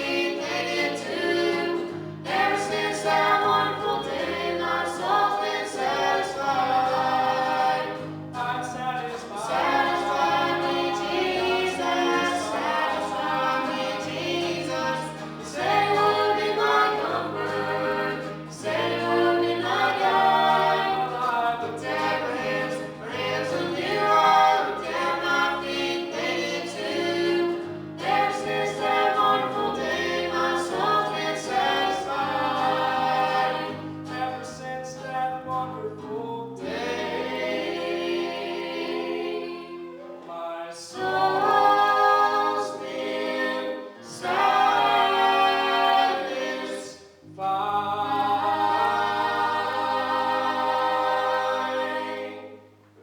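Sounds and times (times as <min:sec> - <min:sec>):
vocal group singing in harmony: 0:00.0 - 0:53.0.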